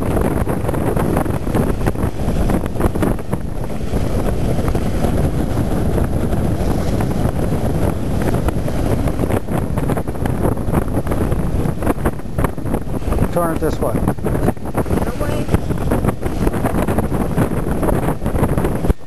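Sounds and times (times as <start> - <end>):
water splashing along hull: 0.0 - 19.0
wind buffeting microphone: 0.0 - 19.0.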